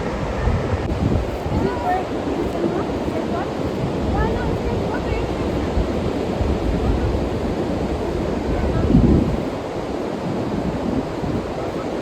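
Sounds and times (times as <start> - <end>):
sea surf washing onto beach: 0.0 - 12.0
wind buffeting microphone: 0.0 - 12.0.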